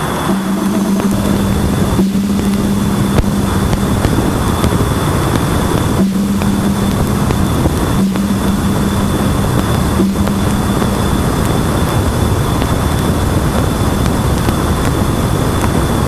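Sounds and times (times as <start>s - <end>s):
low hum: 0.0s - 16.0s
steady static hiss: 0.0s - 16.0s.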